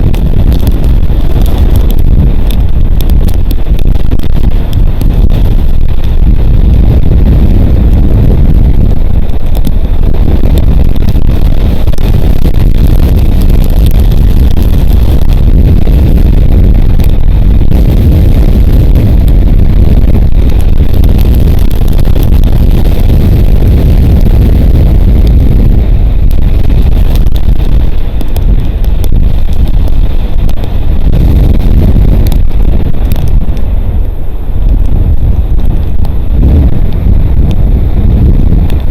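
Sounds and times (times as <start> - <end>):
strong wind buffeting microphone: 0.0 - 38.9.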